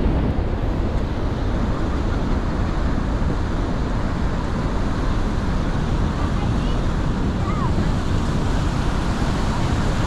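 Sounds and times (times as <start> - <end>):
large waterfall rushing: 0.0 - 10.0.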